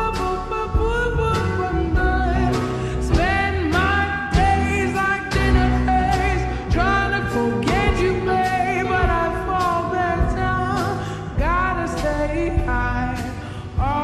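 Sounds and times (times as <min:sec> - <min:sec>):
pop song with vocals: 0:00.0 - 0:14.0.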